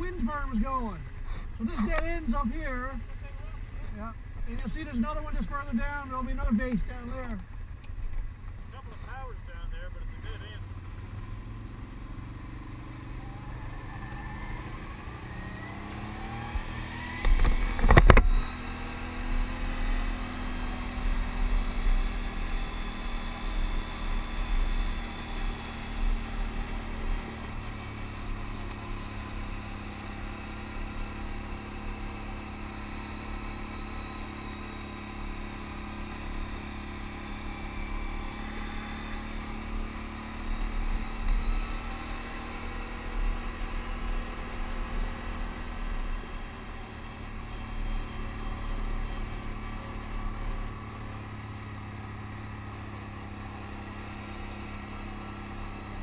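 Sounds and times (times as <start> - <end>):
atv engine accelerating: 0.0 - 56.0.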